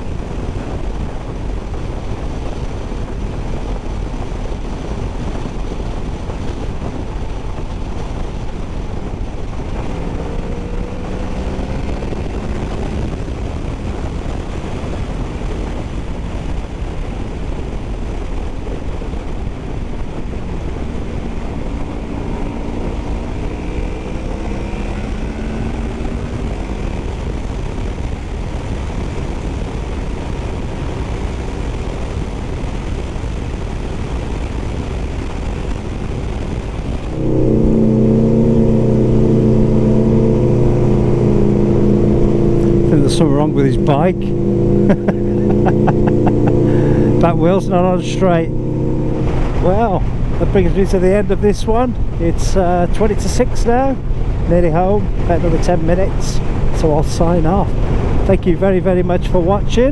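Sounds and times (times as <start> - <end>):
wind noise on microphone: 0.0 - 59.9
motorcycle engine revving: 3.6 - 28.6, 36.6 - 59.9.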